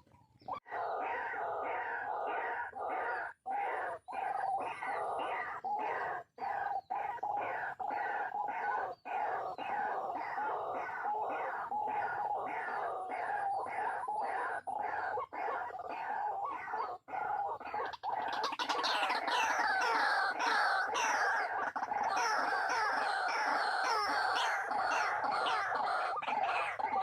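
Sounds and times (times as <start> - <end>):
waterhens calling in chorus: 0.0 - 27.0.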